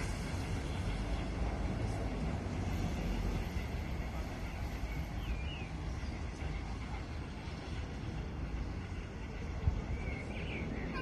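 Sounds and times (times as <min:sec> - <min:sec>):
birds chirping: 0:00.0 - 0:11.0
steam locomotive rumbling: 0:00.0 - 0:11.0.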